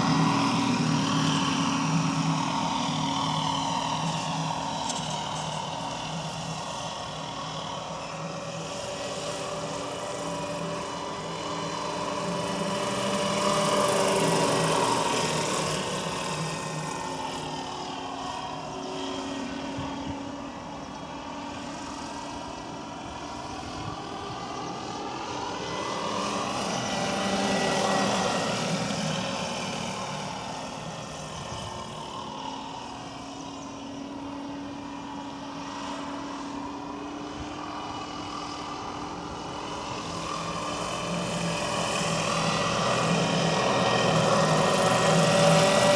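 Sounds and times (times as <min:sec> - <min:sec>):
model helicopter rotor: 0:00.0 - 0:45.9.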